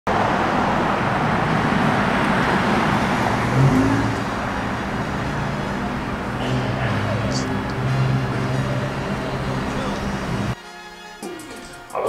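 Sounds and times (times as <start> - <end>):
cars going by: 0.1 - 10.6
low engine hum: 0.1 - 10.6.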